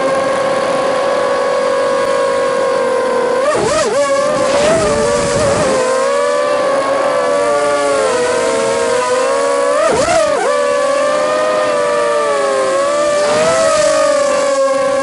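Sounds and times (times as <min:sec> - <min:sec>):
multicopter motors buzzing: 0:00.0 - 0:15.0.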